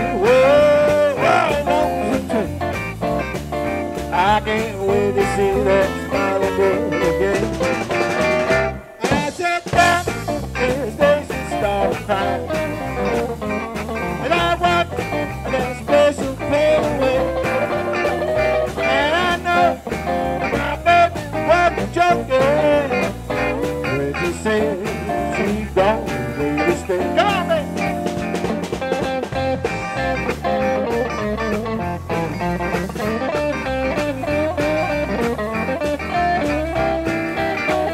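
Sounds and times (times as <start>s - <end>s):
blues band playing: 0.0s - 37.9s
lead guitar bending notes: 0.0s - 37.9s.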